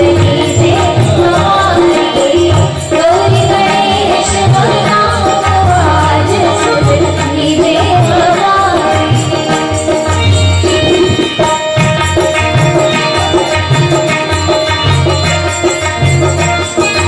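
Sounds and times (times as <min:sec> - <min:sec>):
hand drums beating: 0:00.0 - 0:17.0.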